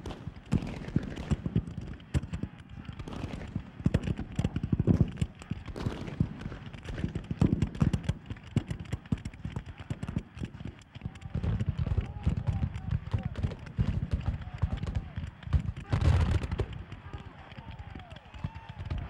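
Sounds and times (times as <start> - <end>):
massed musket fire: 0.0 - 19.0.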